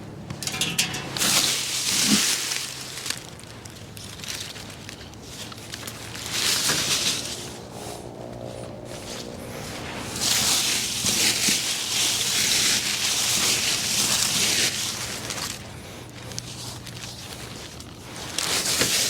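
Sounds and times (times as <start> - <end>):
leaves rustling: 0.4 - 19.0.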